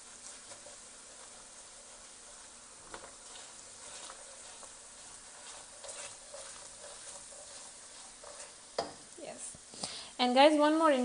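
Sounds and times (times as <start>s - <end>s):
spoon stirring and scraping: 0.0s - 9.2s
sauce sizzling in oil: 0.0s - 11.0s.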